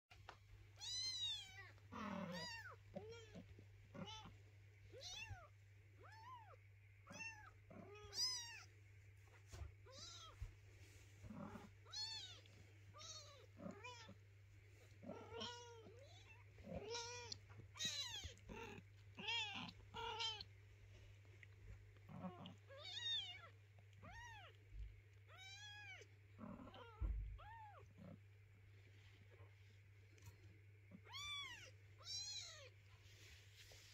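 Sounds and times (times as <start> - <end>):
faint low hum: 0.1 - 33.9.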